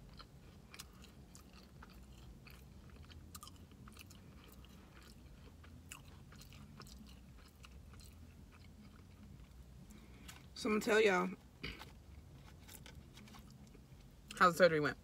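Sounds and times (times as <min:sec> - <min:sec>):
person chewing food: 0:00.0 - 0:10.6, 0:11.6 - 0:14.1
steady low hum: 0:00.0 - 0:15.0.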